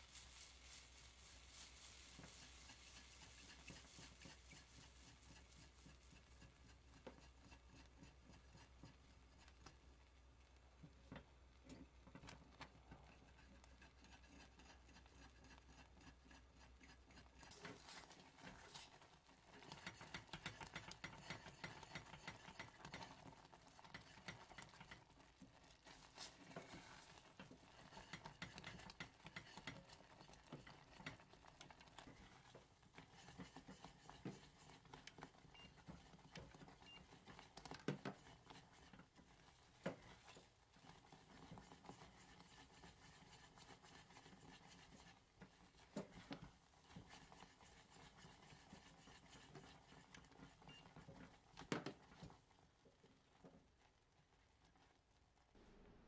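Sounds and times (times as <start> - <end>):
caramel bubbling: 0.0 - 56.0
spatula scraping and clicking in saucepan: 1.6 - 10.0, 10.8 - 52.6.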